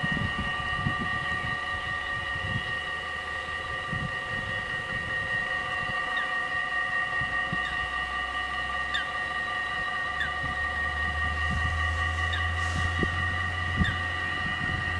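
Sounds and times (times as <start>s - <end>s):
level-crossing warning bell ringing: 0.0s - 14.9s.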